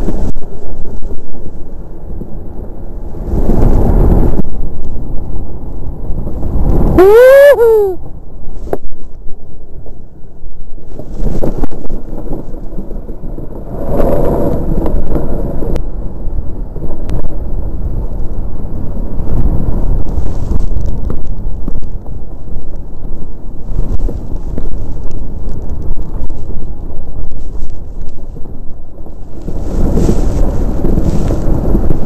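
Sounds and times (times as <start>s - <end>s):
iceboat runners rumbling on ice: 0.0s - 32.0s
wind buffeting microphone: 0.0s - 32.0s.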